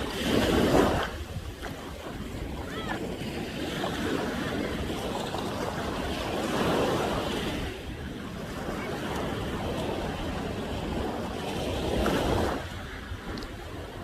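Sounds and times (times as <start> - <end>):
ocean waves breaking on shore: 0.0 - 14.0
wind on microphone: 0.0 - 14.0.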